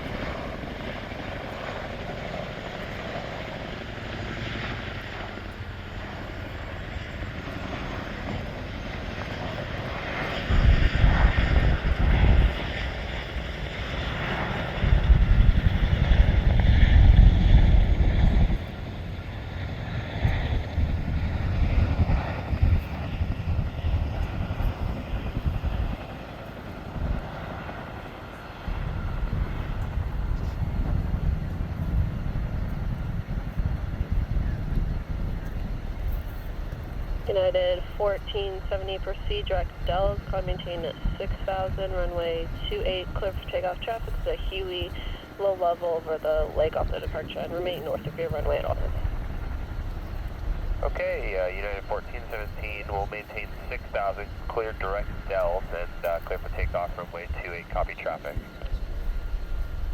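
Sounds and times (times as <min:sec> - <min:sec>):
helicopter turbine and rotor noise: 0:00.0 - 0:59.9
low rumbling surges: 0:00.0 - 0:59.9.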